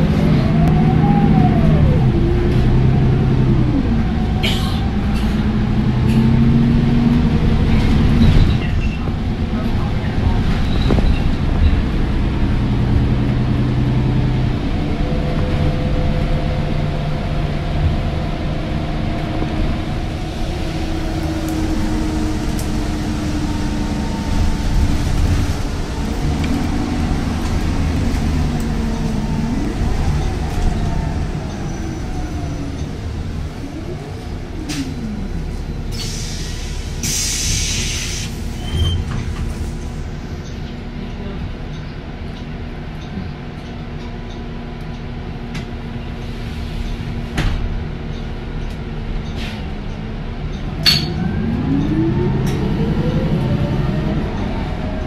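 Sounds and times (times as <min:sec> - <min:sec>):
vehicle road and engine rumble: 0:00.0 - 0:55.0.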